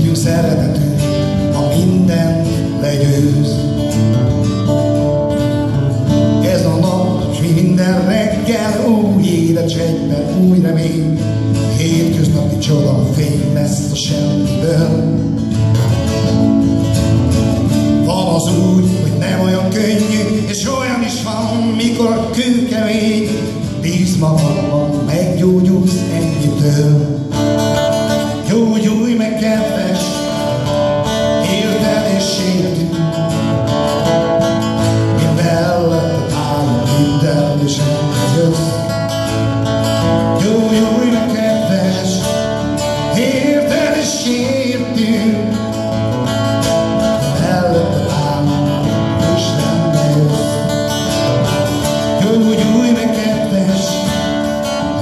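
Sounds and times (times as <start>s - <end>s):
acoustic and electric guitars playing: 0.0s - 55.0s.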